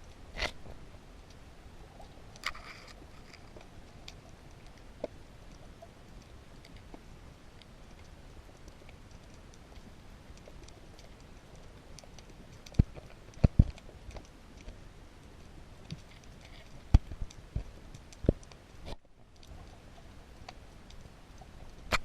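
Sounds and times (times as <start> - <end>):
faint sharp underwater clicks: 0.0 - 22.0.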